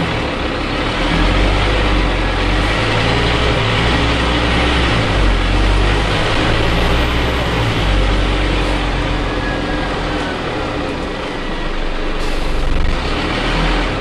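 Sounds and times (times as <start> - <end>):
bus cabin noise: 0.0 - 14.0
bus engine drone: 0.0 - 14.0.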